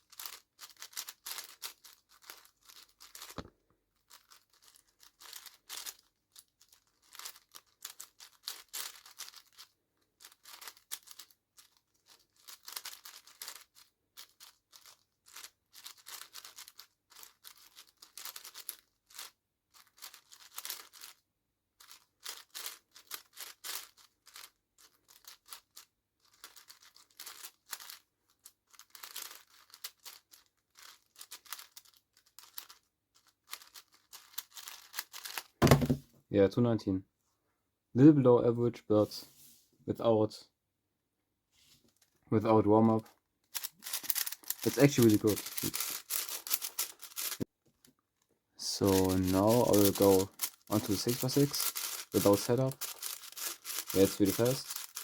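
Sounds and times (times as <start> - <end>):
speedcube clacking and scraping: 0.0 - 36.0, 42.8 - 47.5, 48.7 - 55.0.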